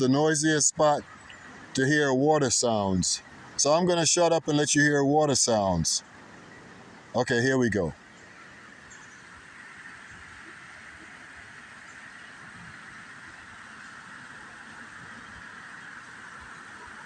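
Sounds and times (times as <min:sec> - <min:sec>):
water rushing: 0:00.0 - 0:08.8, 0:09.4 - 0:17.0.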